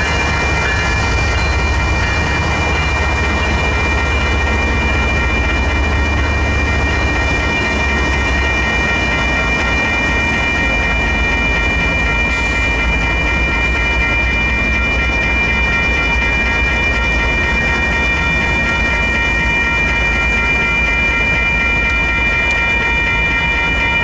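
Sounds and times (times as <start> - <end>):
crossing bell ringing: 0.0 - 24.0
locomotive engines humming: 0.0 - 24.0
train wheels clacking over rails: 0.0 - 24.0.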